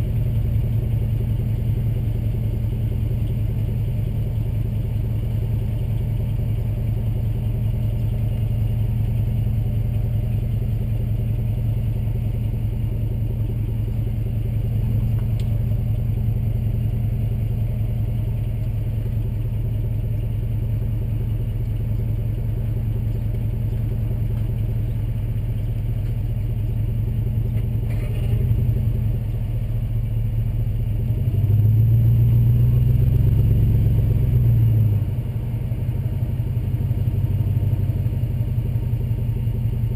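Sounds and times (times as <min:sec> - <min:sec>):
engine rumbling and revving: 0:00.0 - 0:39.9.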